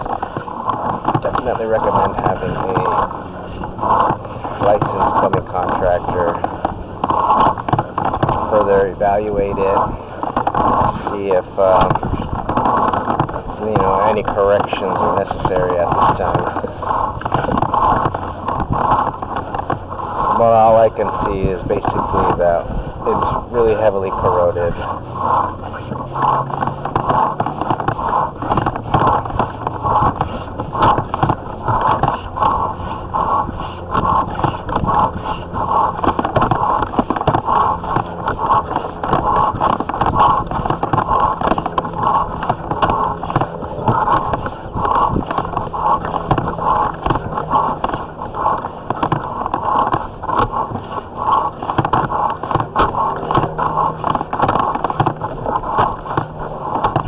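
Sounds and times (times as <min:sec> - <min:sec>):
cable scraping through drain pipe: 0:00.0 - 0:57.0.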